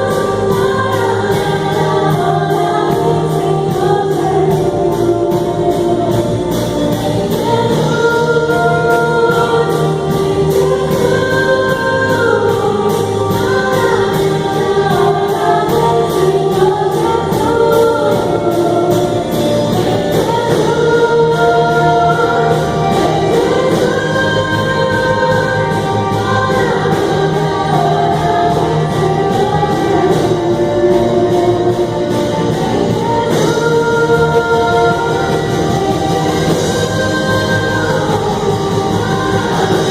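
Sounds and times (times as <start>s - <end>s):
group singing gospel song: 0.0s - 39.9s.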